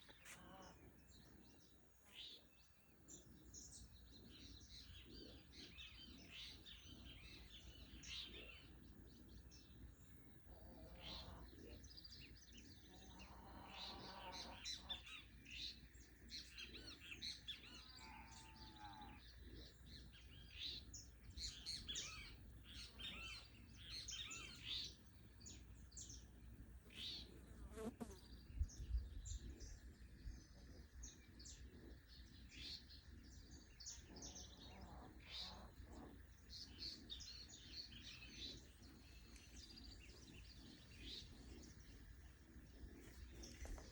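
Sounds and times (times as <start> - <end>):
birds chirping and calling: 0.0 - 43.9.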